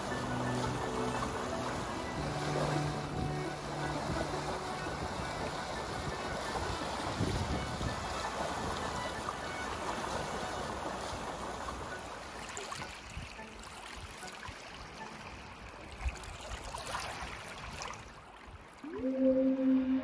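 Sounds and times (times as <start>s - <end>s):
slow ambient music: 0.0s - 16.4s, 18.8s - 20.0s
water lapping over sand: 0.0s - 20.0s.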